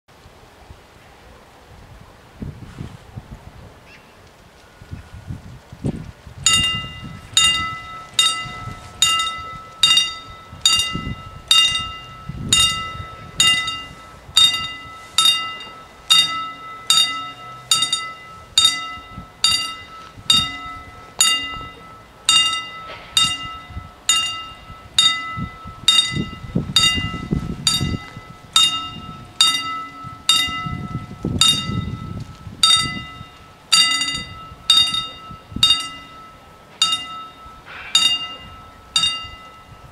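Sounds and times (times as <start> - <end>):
level crossing warning bell: 6.5 - 39.9.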